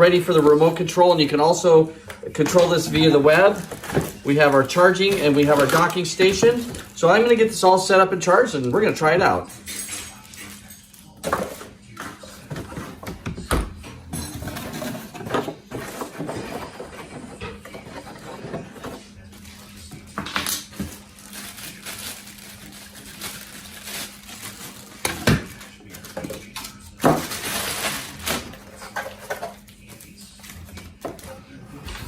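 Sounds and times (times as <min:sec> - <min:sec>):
plastic packaging rustling and clatter: 0:00.0 - 0:32.0.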